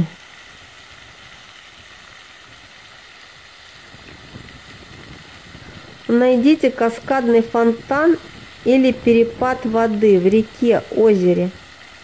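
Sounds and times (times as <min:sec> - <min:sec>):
water splashing down fountain wall: 0:00.0 - 0:12.0.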